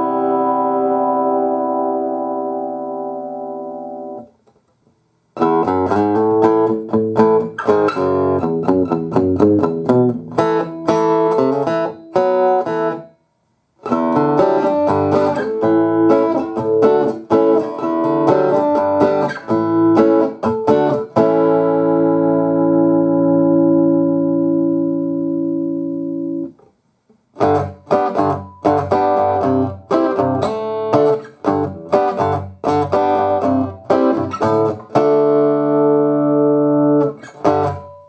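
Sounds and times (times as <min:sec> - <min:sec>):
amplified guitar chords ringing: 0:00.0 - 0:04.3, 0:05.4 - 0:13.1, 0:13.8 - 0:26.6, 0:27.4 - 0:38.0
picked guitar notes: 0:00.0 - 0:04.4, 0:05.4 - 0:13.2, 0:13.8 - 0:26.7, 0:27.4 - 0:38.0.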